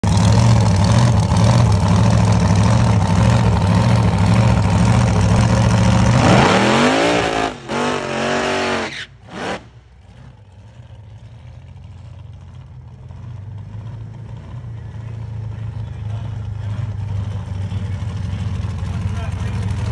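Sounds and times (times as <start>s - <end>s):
drag car engine revving: 0.0s - 19.9s.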